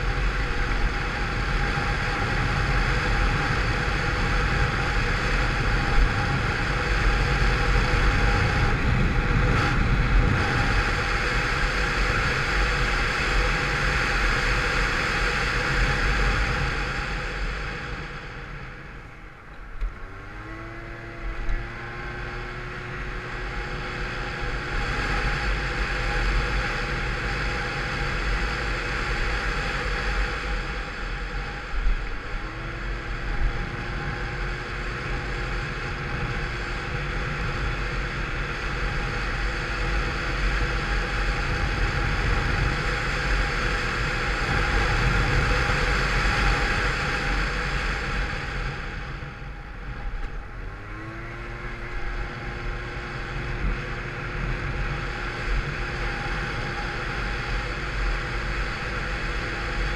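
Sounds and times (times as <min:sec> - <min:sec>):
scooter engine riding: 0:00.0 - 0:59.9
wind rushing over microphone: 0:00.0 - 0:59.9.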